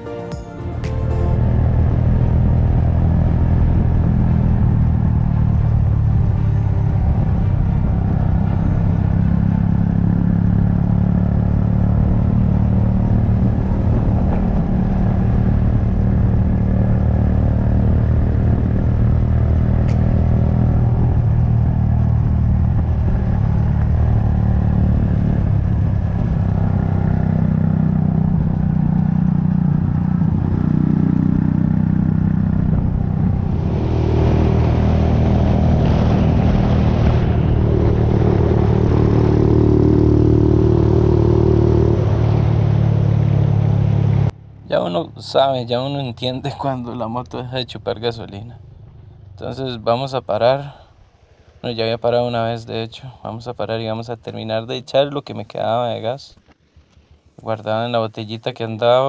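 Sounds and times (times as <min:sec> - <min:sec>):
motorcycle engine cruising: 0:00.0 - 0:49.7, 0:56.3 - 0:57.6.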